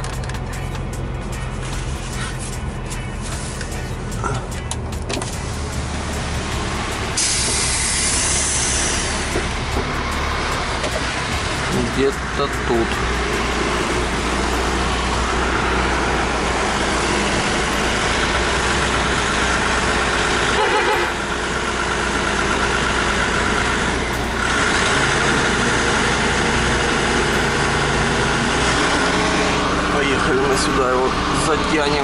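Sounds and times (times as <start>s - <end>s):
truck diesel engine running: 0.0s - 32.0s.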